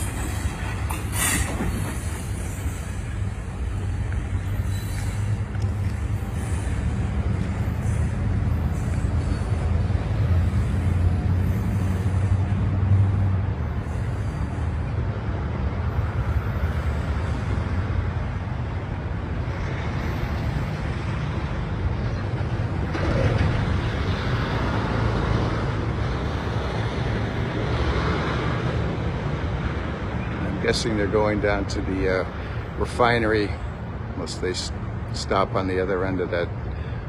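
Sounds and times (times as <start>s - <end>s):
steel wheels on rail: 0.0s - 35.3s
freight train rumbling past: 0.0s - 37.0s.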